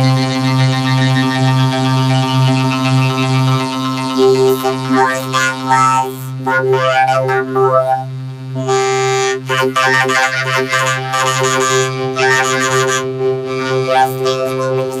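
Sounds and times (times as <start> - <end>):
pitch-shifted cartoon music: 0.0 - 15.0
steady low drone: 0.0 - 15.0.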